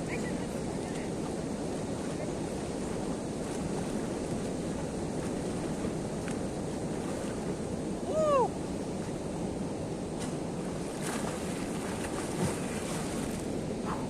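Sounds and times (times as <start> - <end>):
sea waves and surf: 0.0 - 14.0
wind buffeting microphone: 0.0 - 14.0.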